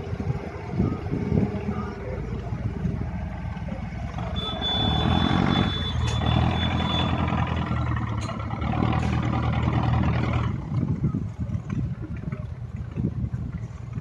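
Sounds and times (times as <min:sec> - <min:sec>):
boat engine running: 0:00.0 - 0:14.0
water and wind noise: 0:00.0 - 0:14.0.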